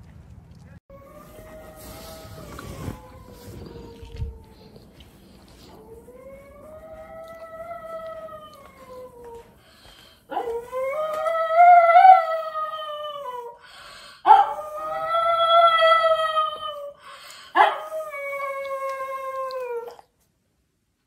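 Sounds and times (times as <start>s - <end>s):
dog howling: 0.9s - 9.6s, 10.3s - 13.6s, 14.3s - 17.0s, 17.6s - 20.1s.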